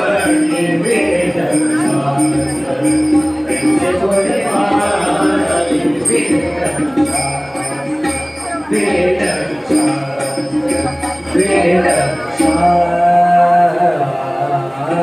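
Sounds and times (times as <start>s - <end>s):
jingling hand percussion: 0.0s - 14.1s
devotional singing: 0.0s - 15.0s.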